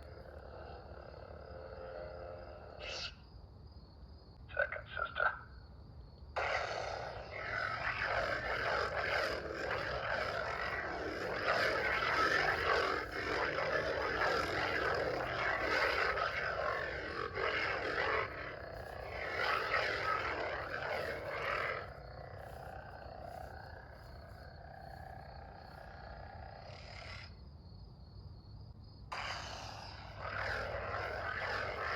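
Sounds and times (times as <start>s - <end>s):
lightsaber hum: 0.0s - 3.2s, 6.4s - 27.4s, 29.1s - 31.9s.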